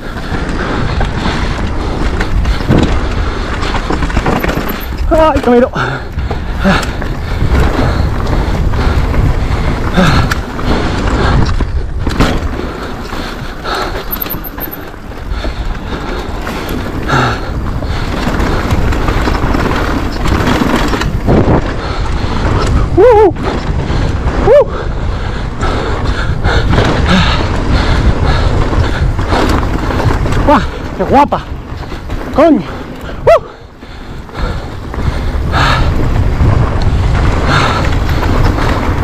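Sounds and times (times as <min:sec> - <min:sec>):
bike rattling: 0:00.0 - 0:39.0
tyres rumbling over dirt and rocks: 0:00.0 - 0:39.0
wind buffeting microphone: 0:00.0 - 0:39.0.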